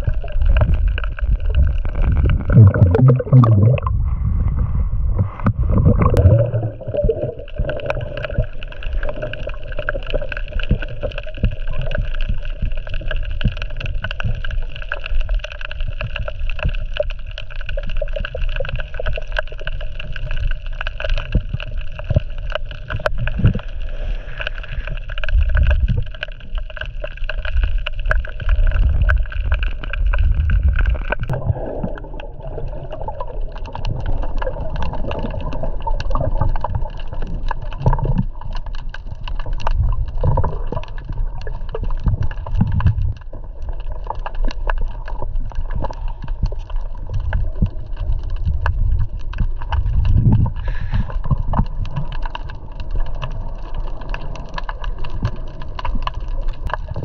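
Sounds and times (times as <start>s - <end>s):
muffled underwater water sloshing: 0.0s - 16.6s, 20.9s - 57.0s.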